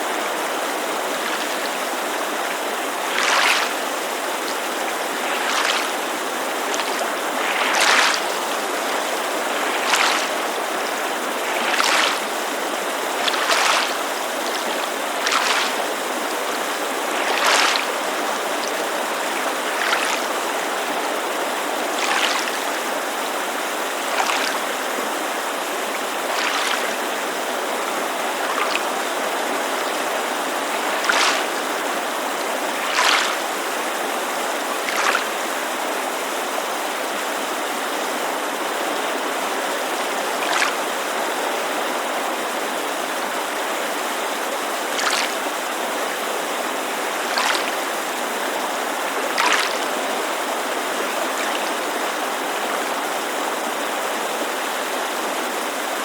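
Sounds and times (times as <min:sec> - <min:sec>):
creek rushing: 0:00.0 - 0:56.0
small waves lapping shore: 0:00.0 - 0:56.0.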